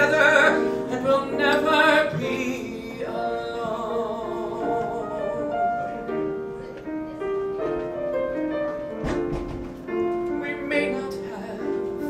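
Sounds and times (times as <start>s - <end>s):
piano playing held notes: 0.0s - 12.0s.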